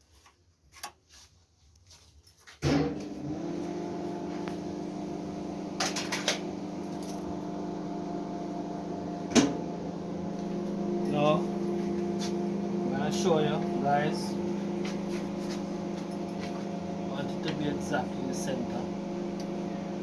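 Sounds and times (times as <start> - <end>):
welding machine humming: 3.0 - 20.0.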